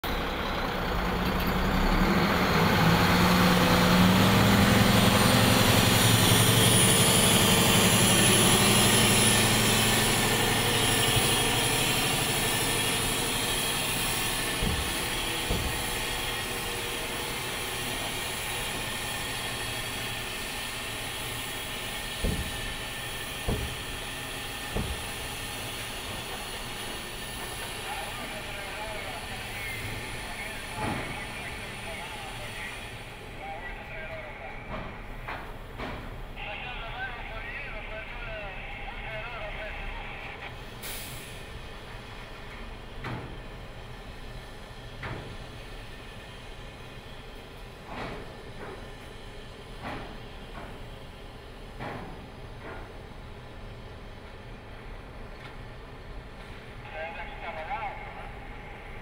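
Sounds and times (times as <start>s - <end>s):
truck diesel engine passing: 0.0s - 59.0s.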